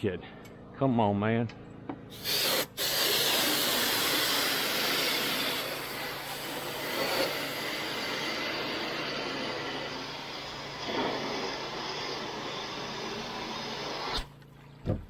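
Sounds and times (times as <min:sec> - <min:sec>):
hose water jet spraying into gutter: 0:02.1 - 0:14.4.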